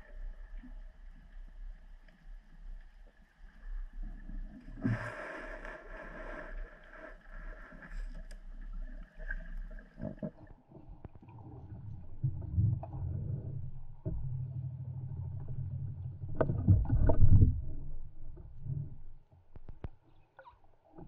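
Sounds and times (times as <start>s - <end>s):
faint underwater hum: 0.0s - 20.6s.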